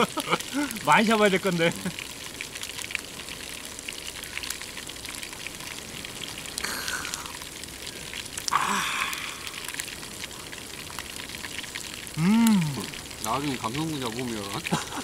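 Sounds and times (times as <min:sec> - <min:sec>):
pork sizzling in a pan: 0:00.0 - 0:14.8.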